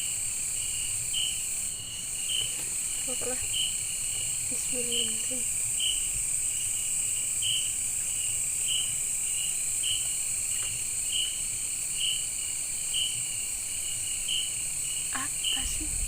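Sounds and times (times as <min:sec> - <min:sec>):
cricket chirping: 0:00.0 - 0:16.0
high-pitched insect drone: 0:00.0 - 0:16.0.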